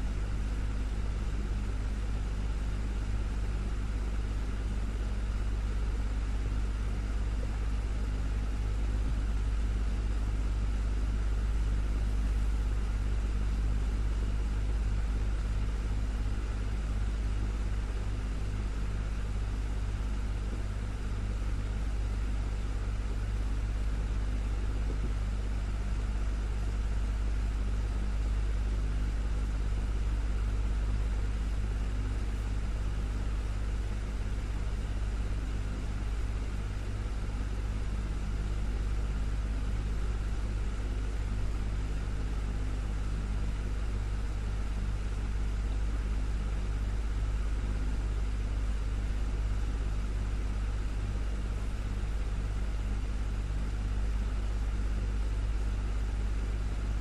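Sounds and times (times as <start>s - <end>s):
desktop fan running: 0.0s - 57.0s.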